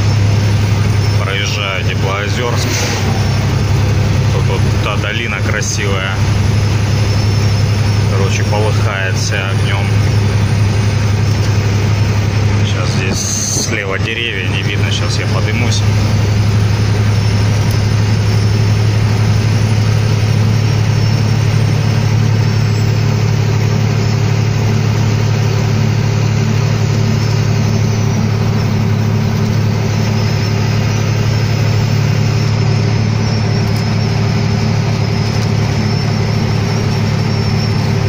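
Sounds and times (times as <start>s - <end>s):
diesel truck engine droning: 0.0s - 38.0s
road noise: 0.0s - 38.0s.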